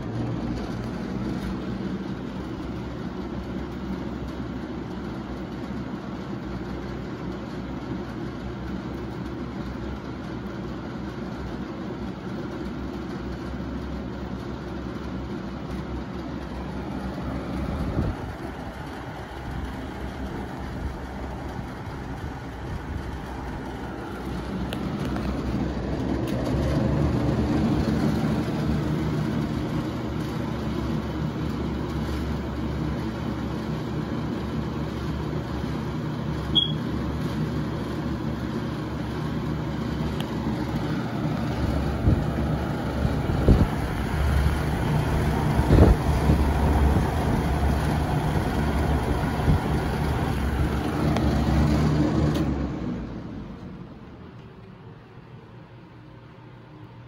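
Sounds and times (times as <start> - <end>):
fan grille rattle: 0.0 - 55.6
box fan running: 0.0 - 57.0.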